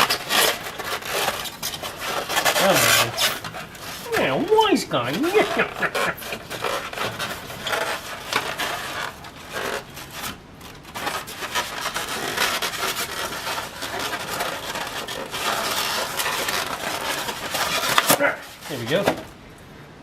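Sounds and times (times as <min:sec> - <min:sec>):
scraping and rubbing of fan part: 0:00.0 - 0:19.4.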